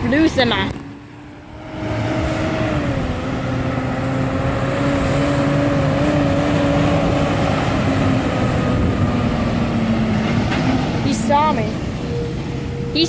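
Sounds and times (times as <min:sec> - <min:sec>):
road noise rumble: 0:00.0 - 0:13.0.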